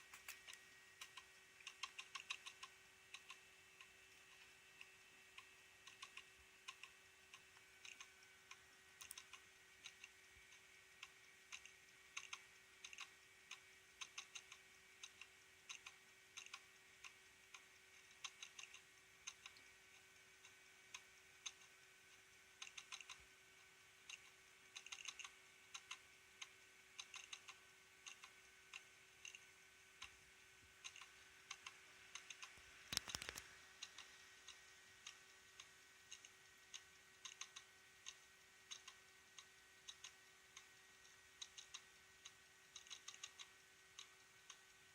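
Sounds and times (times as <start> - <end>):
hard disk drive clicking: 0.0 - 44.9
steady hum: 0.0 - 44.9.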